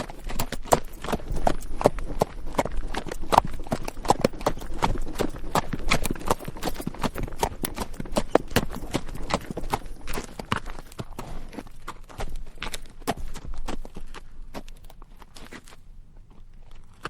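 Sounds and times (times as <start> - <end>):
horse hooves clopping on rocky dirt: 0.0 - 17.0.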